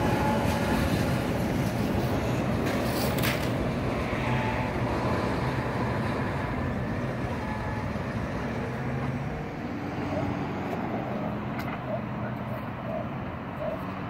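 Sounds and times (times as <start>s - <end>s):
low rumble of road traffic: 0.0s - 14.0s.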